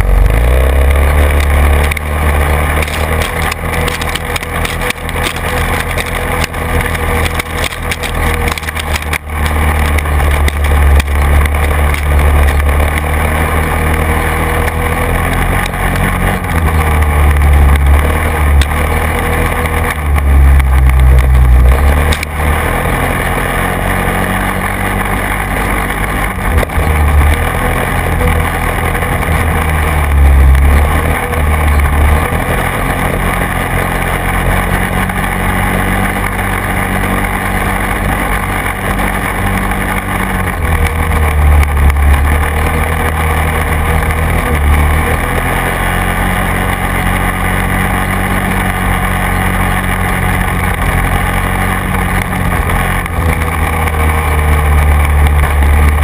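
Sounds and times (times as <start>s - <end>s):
constant rushing noise: 0.0s - 56.0s
quad bike engine running: 0.0s - 56.0s.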